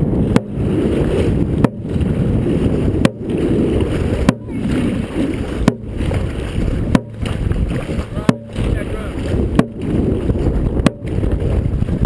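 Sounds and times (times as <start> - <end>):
water rushing: 0.0 - 12.0
wind on microphone: 0.0 - 12.0
drum beats: 0.2 - 12.0.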